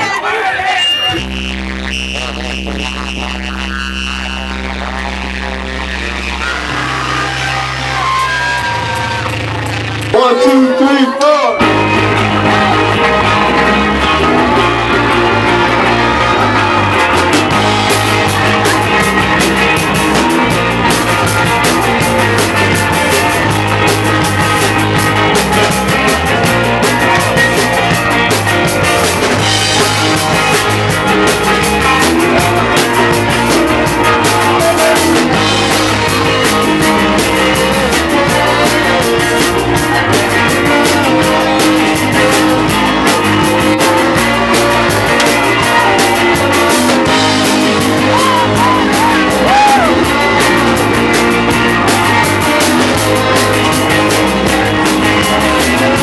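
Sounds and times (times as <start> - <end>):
bass guitar: 0.0 - 56.0
drums: 0.0 - 56.0
electric guitar: 0.0 - 56.0.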